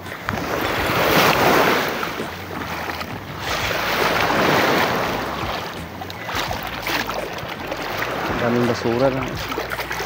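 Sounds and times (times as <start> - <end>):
small waves washing ashore: 0.0 - 10.0.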